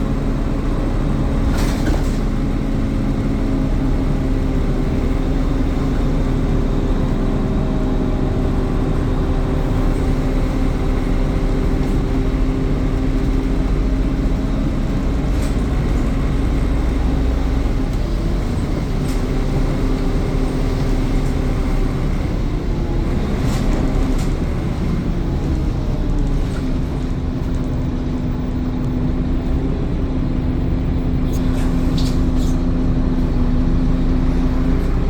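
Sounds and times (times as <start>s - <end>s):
bus diesel engine droning: 0.0s - 35.0s.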